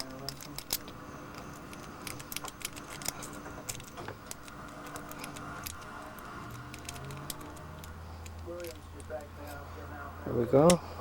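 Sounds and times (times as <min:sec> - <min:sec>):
lock pick clicking and scraping: 0:00.0 - 0:09.6.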